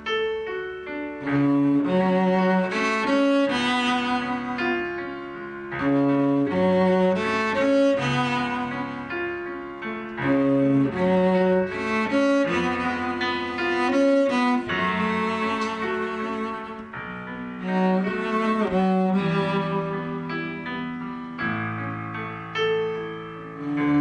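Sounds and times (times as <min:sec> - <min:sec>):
cello melody: 0:00.0 - 0:24.0
piano accompaniment: 0:00.0 - 0:24.0.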